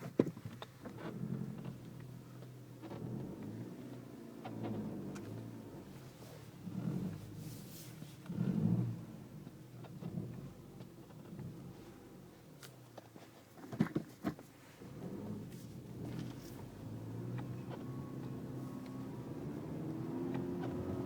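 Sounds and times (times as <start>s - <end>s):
car engine revving: 1.0s - 12.3s, 14.8s - 21.0s.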